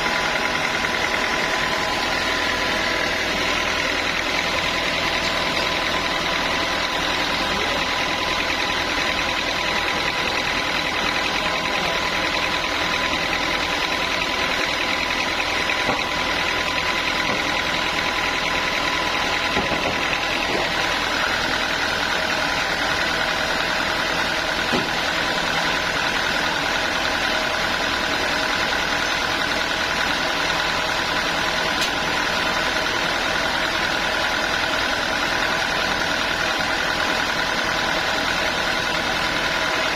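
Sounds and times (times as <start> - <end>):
band sawmill whining: 0.0 - 39.9.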